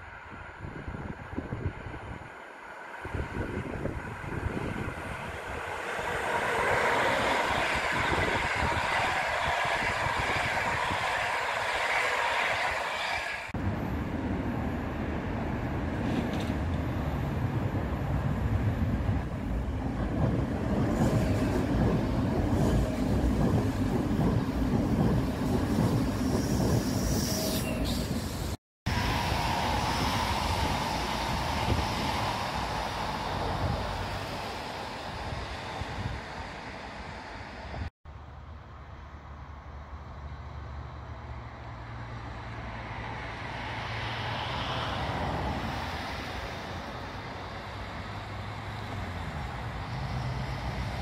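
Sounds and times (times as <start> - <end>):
train approaching: 0.0 - 51.0
train rolling past with rumble: 0.1 - 51.0.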